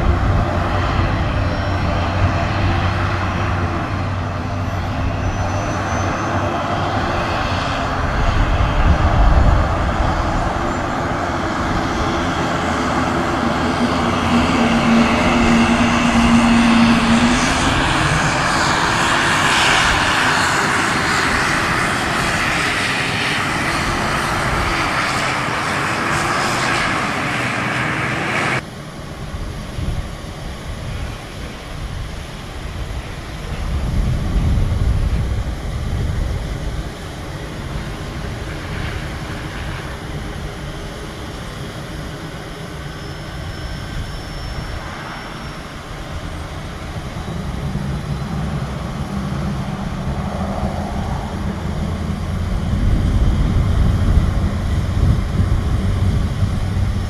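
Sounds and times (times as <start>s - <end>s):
turboprop engines running: 0.0s - 57.0s.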